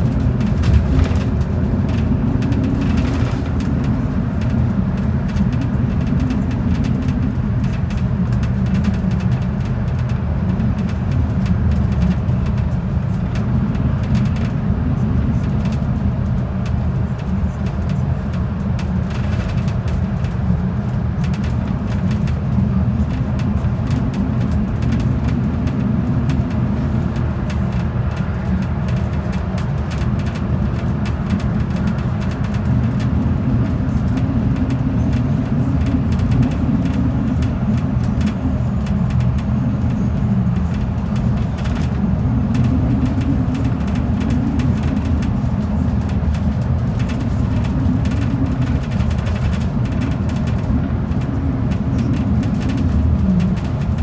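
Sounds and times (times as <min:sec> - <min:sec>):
bus engine and tyres rumbling: 0:00.0 - 0:54.0.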